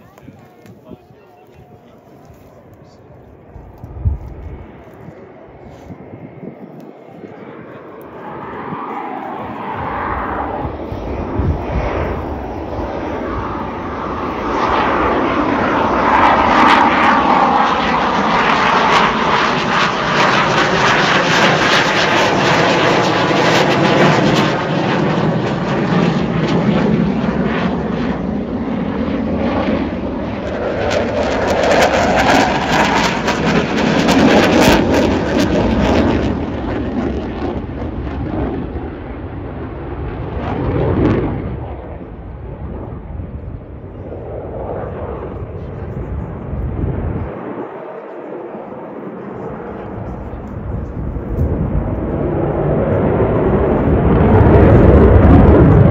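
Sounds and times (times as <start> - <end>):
jet engines flying overhead: 0.0 - 55.9.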